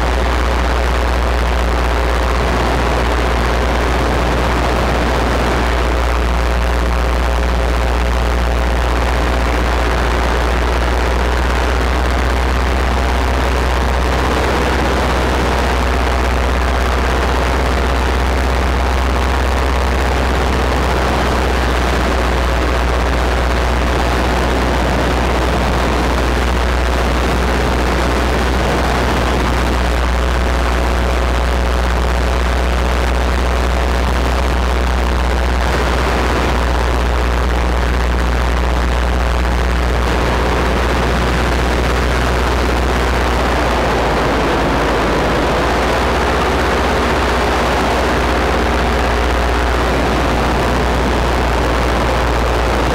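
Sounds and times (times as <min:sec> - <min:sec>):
paramotor engine and propeller: 0:00.0 - 0:52.9
wind noise: 0:00.0 - 0:52.9.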